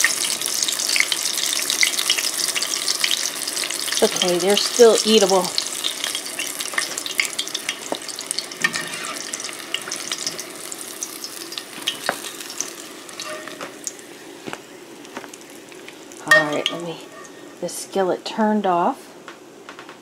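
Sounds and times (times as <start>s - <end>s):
hot oil sizzling in a skillet: 0.0s - 17.9s.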